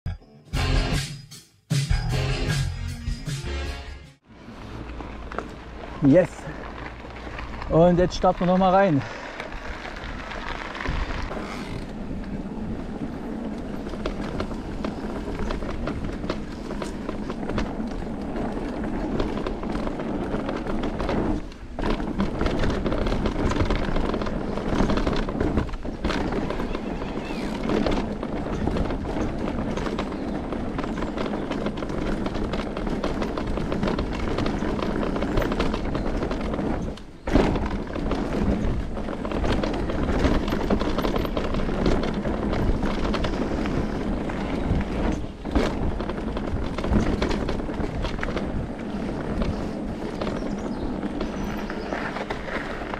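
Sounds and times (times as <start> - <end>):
bike tyre roar on dirt: 4.2 - 52.9
bike rattling: 4.3 - 52.9.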